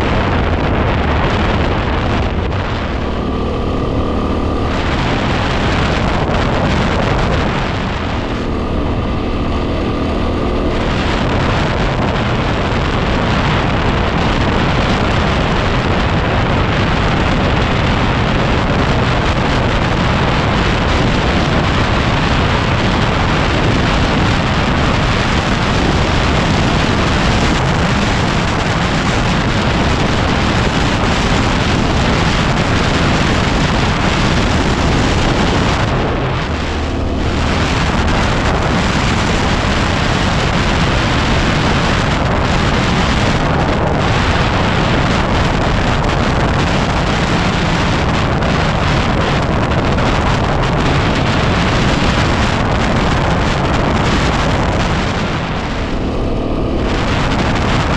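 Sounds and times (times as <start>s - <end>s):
motorcycle engine hum: 0.0s - 57.9s
wind buffeting microphone: 0.0s - 57.9s.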